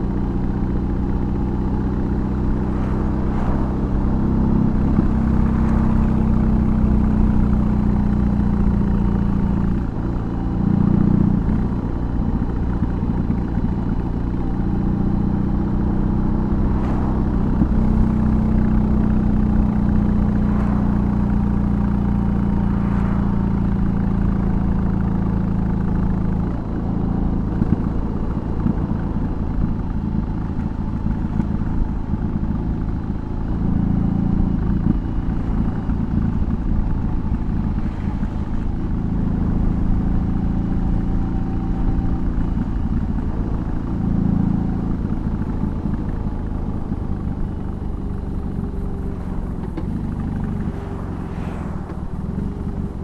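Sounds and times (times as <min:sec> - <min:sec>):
motorcycle engine riding: 0:00.0 - 0:53.0.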